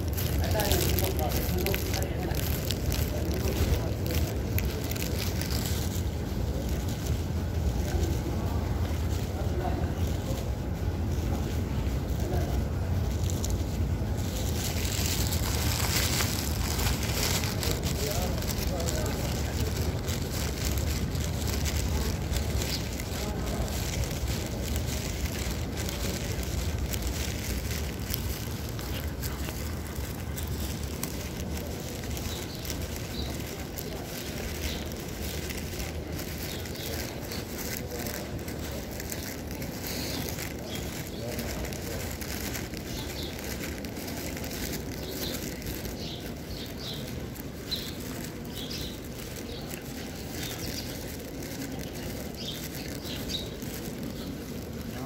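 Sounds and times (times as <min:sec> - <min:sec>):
low rumble and hiss: 0:00.0 - 0:50.4
murmur of people talking: 0:00.0 - 0:55.0.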